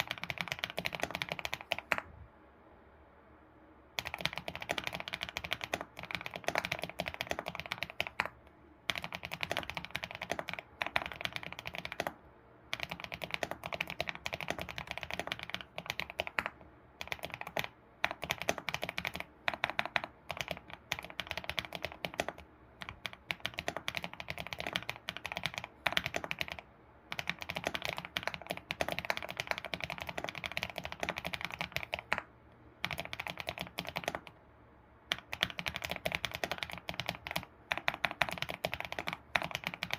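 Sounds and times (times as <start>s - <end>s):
fast keyboard typing: 0.0s - 2.1s, 4.0s - 34.4s, 35.1s - 39.9s.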